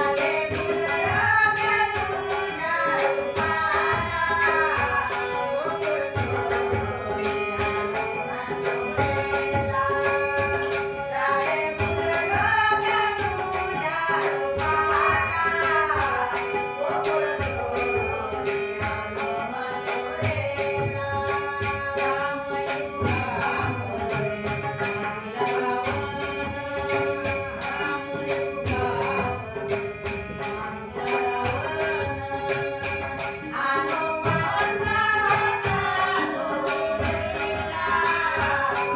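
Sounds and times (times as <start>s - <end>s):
harmonium drone: 0.0s - 38.9s
high jingling beat: 0.0s - 38.9s
tabla: 0.0s - 38.9s.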